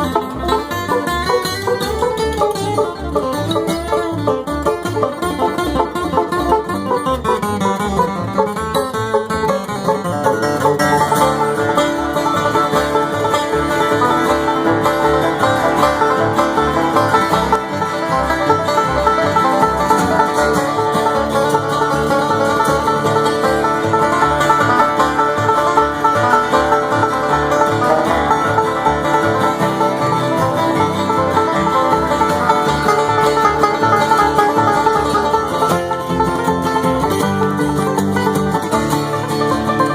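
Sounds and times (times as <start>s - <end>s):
banjo picking: 0.0s - 39.9s
bluegrass band playing: 0.0s - 39.9s.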